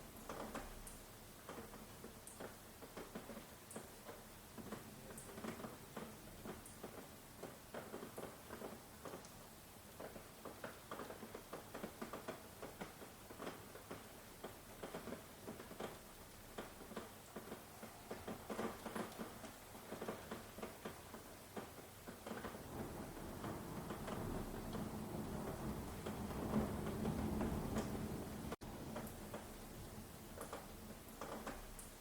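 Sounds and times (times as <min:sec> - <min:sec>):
raindrops pattering: 0:00.0 - 0:32.0.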